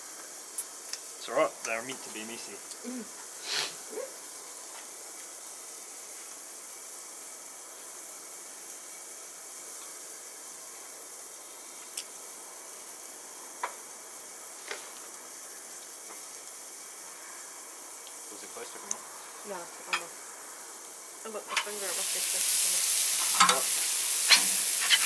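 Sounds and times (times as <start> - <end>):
food sizzling in a grill: 0.0 - 25.0.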